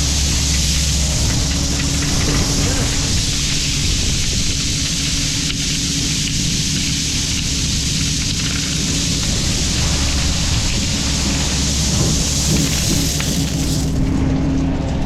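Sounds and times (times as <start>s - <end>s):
constant loud hiss: 0.0s - 14.2s
diesel engine humming: 0.0s - 15.0s.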